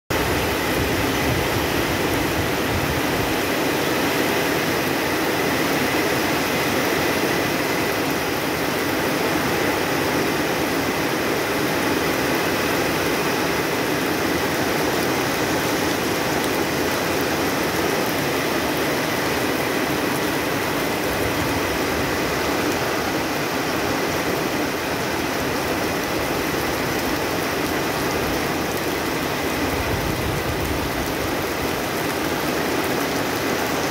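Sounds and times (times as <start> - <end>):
heavy rain on foliage: 0.1 - 33.9.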